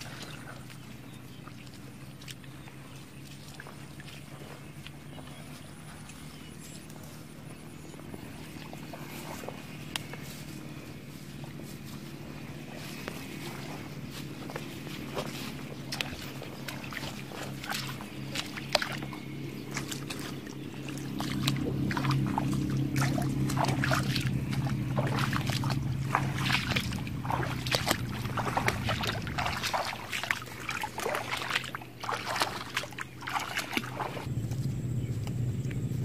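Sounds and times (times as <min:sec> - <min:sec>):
bare feet splashing in water: 0:00.0 - 0:34.6
low hum: 0:00.0 - 0:36.0.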